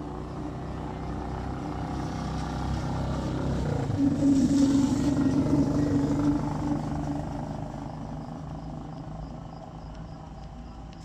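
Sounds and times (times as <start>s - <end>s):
droning hum: 0.0s - 11.0s
vehicle engine running: 0.0s - 11.0s.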